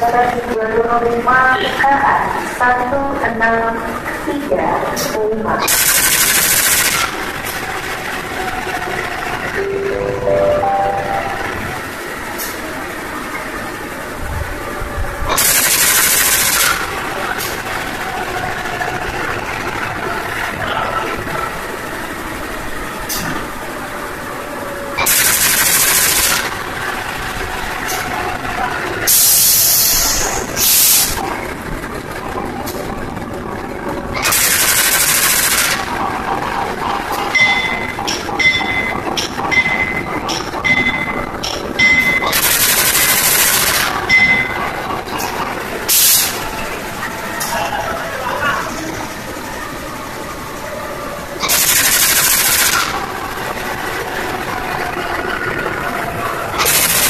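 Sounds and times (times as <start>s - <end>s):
locomotive engine running: 0.0s - 57.0s.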